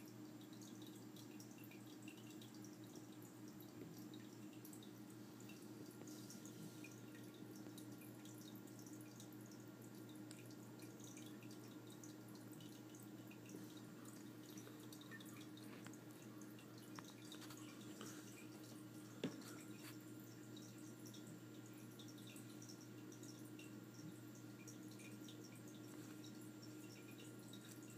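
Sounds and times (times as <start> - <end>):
aquarium filter hum: 0.0 - 27.9
water trickling and dripping: 0.0 - 27.9.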